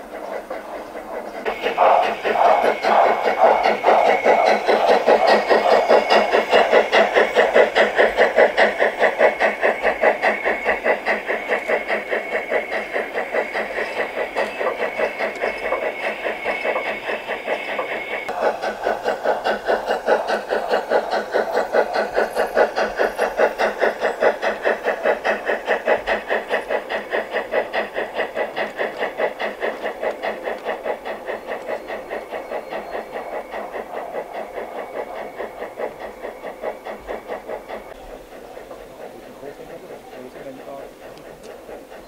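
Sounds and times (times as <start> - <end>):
model steam locomotive chuffing: 0.0 - 42.0.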